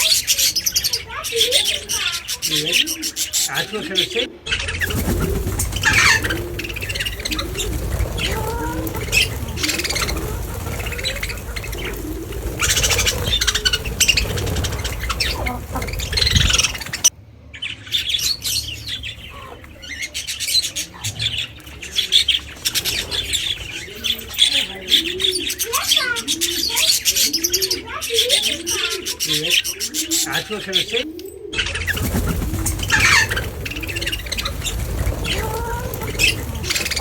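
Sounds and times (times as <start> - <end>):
birds calling and squawking: 0.0 - 37.0
birds chirping: 0.0 - 37.0.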